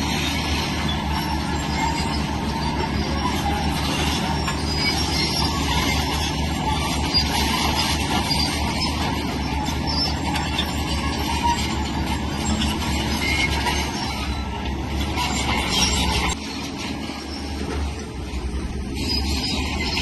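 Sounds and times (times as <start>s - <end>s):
crawler tracks clanking: 0.0s - 20.0s
diesel engine rumbling: 0.0s - 20.0s.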